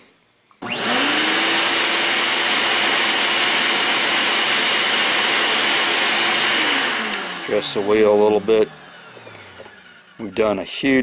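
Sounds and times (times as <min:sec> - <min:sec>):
grinding wheel motor whining: 0:00.6 - 0:11.0.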